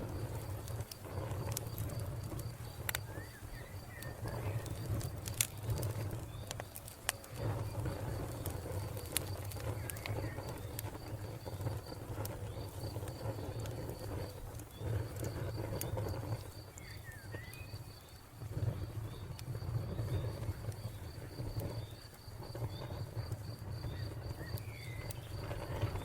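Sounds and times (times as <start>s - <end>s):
cricket chirping: 0.0s - 26.0s
wood fire crackling: 0.0s - 26.0s.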